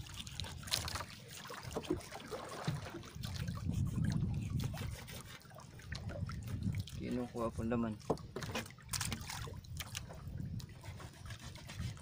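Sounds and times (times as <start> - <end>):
water lapping against canoe hull: 0.0 - 12.0.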